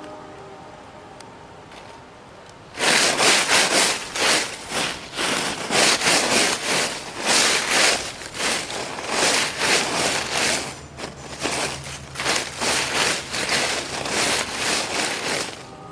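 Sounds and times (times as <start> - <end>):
rustling of dry forest litter: 2.6 - 15.9.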